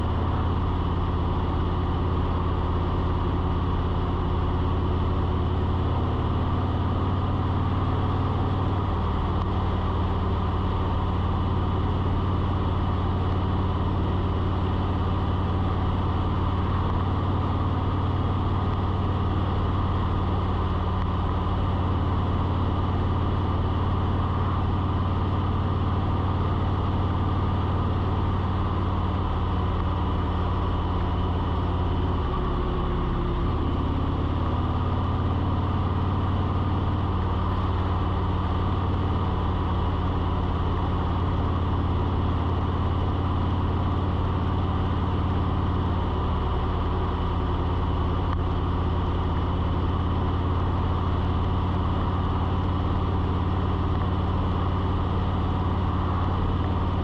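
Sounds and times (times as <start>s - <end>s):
low mechanical drone with hiss: 0.0s - 57.0s.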